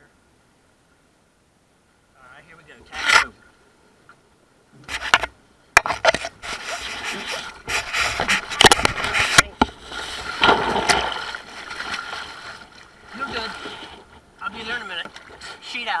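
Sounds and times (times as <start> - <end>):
water sloshing along hull: 1.9 - 16.0.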